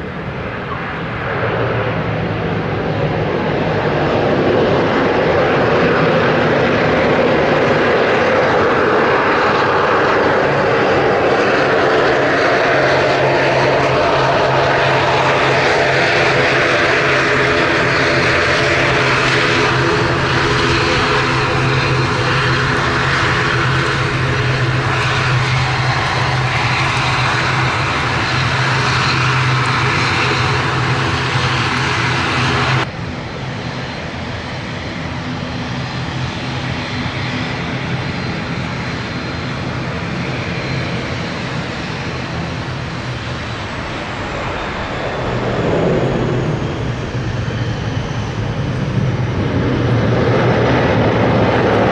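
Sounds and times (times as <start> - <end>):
turboprop engines running loudly: 0.0 - 51.9
turboprop plane approaching: 0.0 - 51.9.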